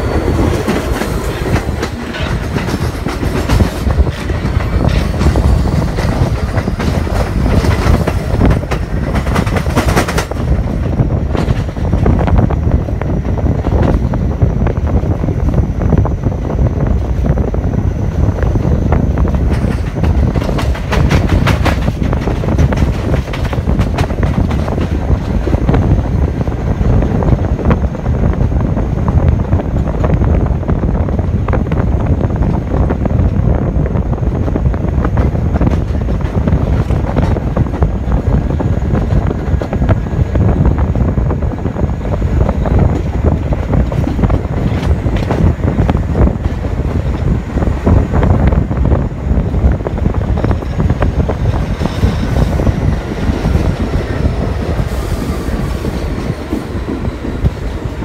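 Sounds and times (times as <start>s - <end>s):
subway wheels rolling on track: 0.0s - 58.0s.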